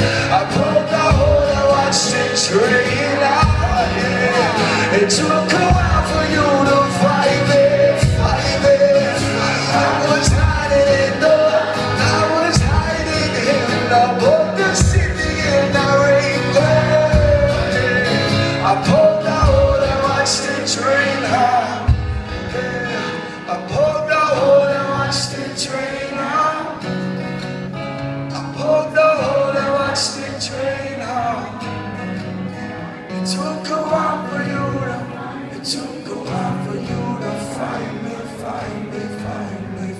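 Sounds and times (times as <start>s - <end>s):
man singing wordless melody: 0.0s - 26.8s, 28.3s - 31.6s, 33.1s - 39.9s
acoustic guitar: 0.0s - 39.9s.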